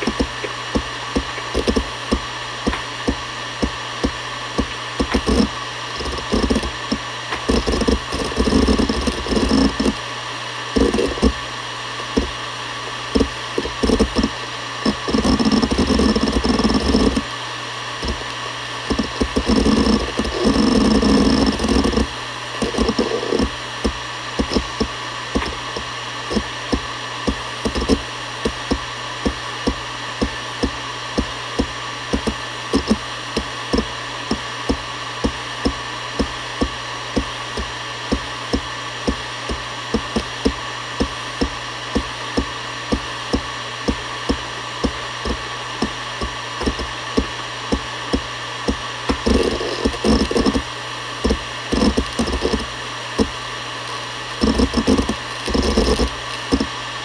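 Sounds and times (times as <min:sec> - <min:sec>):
hard drive seek clicks: 0:00.0 - 0:57.0
hard drive spinning whine: 0:00.0 - 0:57.0.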